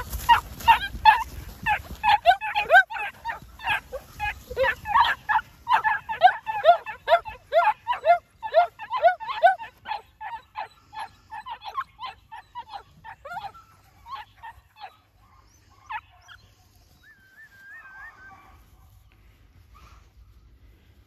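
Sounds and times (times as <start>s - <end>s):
puppies yapping: 0.0s - 18.8s.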